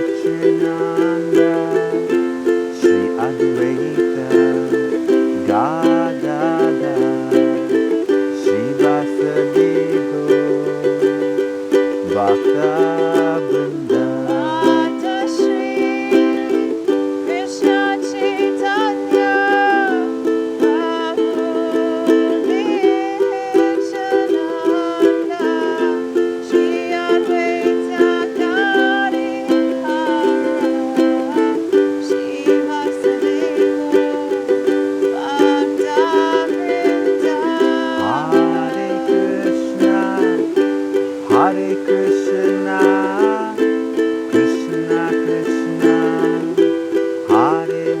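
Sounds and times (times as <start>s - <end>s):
gliding melody line: 0.0s - 48.0s
ukulele strumming chords: 0.0s - 48.0s.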